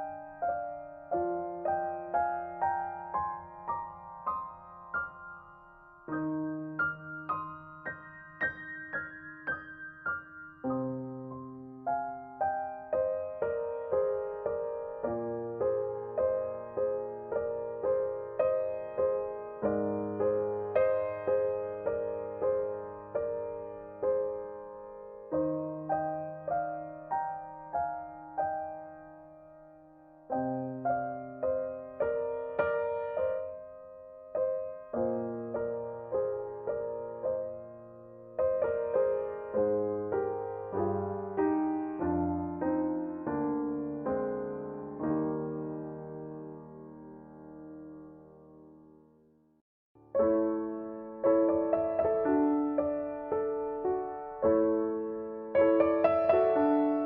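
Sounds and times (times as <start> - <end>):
slow gentle piano melody: 0.0 - 57.0.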